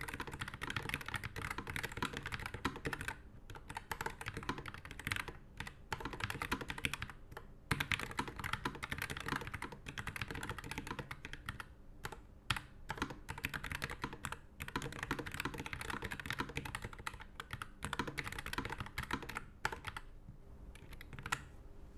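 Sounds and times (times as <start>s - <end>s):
mechanical keyboard typing: 0.0s - 20.1s, 20.7s - 21.5s.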